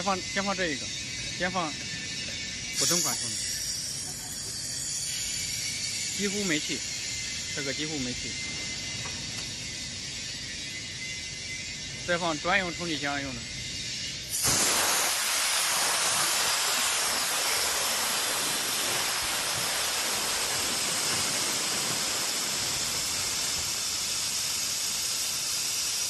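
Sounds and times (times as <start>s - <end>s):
gas venting hiss: 0.0s - 26.0s.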